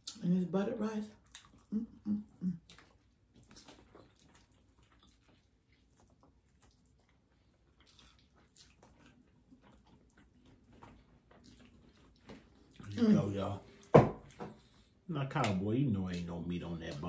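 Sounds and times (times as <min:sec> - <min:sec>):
wet chewing sounds: 0:00.0 - 0:00.3, 0:01.0 - 0:17.0.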